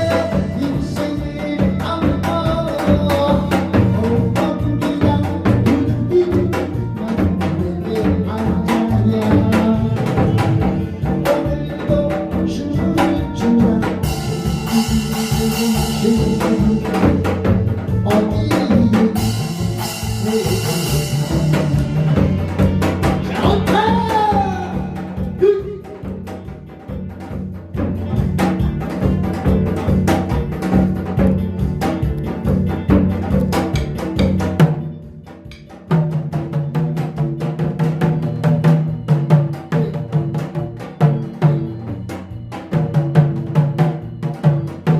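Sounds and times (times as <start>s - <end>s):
upbeat instrumental music: 0.0s - 44.9s.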